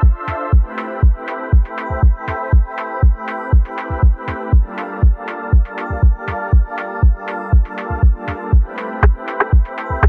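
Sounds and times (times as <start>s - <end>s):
kick drum beat: 0.0s - 10.0s.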